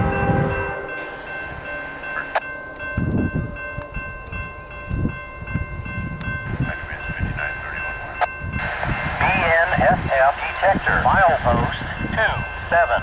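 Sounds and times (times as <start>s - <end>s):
wind rumble on microphone: 0.0s - 0.8s, 2.8s - 13.0s
crossing warning bell ringing: 0.0s - 13.0s
freight train approaching: 0.0s - 13.0s.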